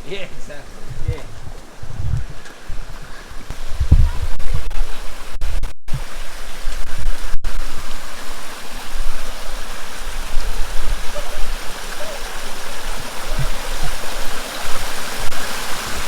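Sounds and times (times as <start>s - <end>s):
creek water rushing: 0.0s - 5.4s, 6.0s - 16.0s
wind rumble on microphone: 0.0s - 16.0s.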